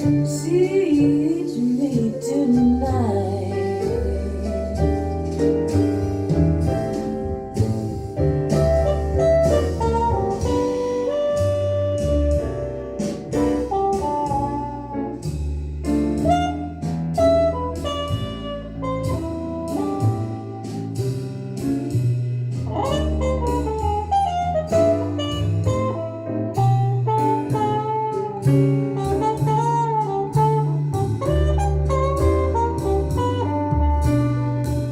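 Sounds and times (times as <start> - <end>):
jazz saxophone solo: 0.0 - 34.9
piano bass and drums: 0.0 - 34.9.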